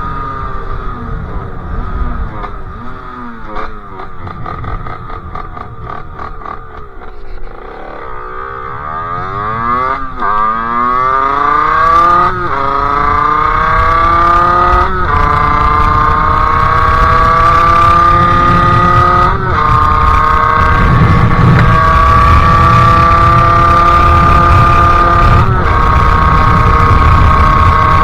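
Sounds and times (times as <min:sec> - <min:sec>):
two-stroke engine accelerating: 0:00.0 - 0:28.0.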